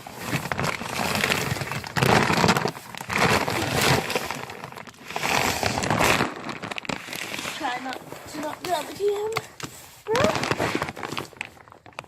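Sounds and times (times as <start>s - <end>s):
feed bag rustling and scraping: 0.0s - 12.0s.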